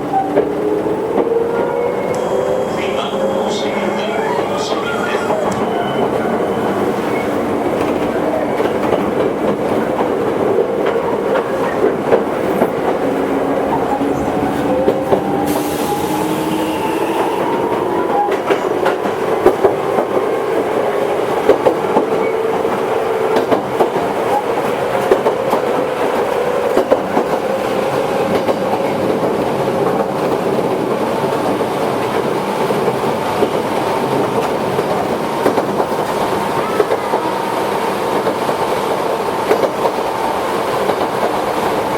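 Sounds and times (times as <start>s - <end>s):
wheels clattering on rails: 4.2s - 41.9s.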